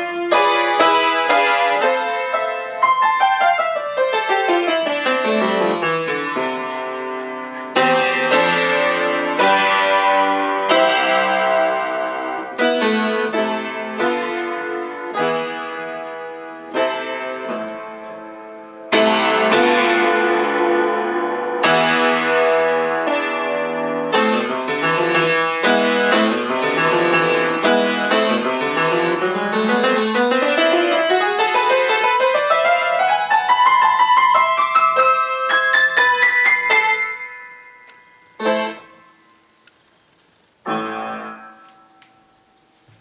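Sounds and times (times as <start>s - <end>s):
solo piano playing: 0.0s - 43.0s.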